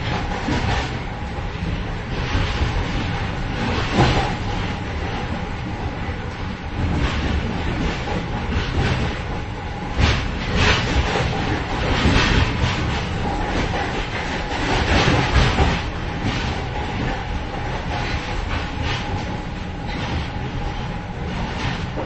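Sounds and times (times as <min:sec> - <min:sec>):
train wheels rumbling: 0:00.0 - 0:22.0.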